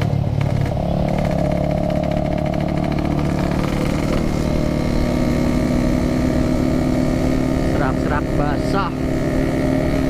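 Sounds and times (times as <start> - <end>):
two-stroke motorcycle engine running: 0.0 - 10.0.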